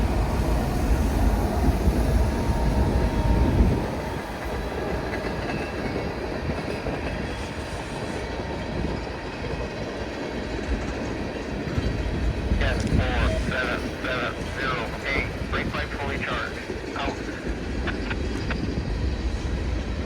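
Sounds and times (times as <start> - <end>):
freight train rumbling and rattling: 0.0 - 20.0.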